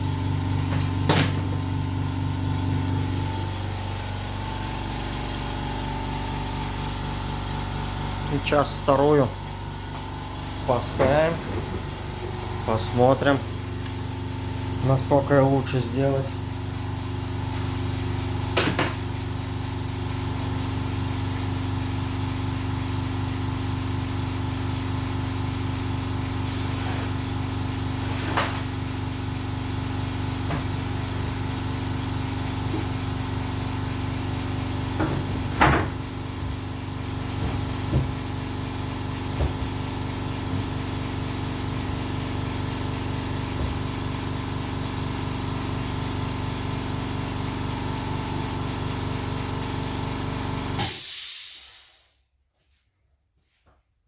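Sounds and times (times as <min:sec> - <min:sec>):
steady machine hum: 0:00.0 - 0:50.9.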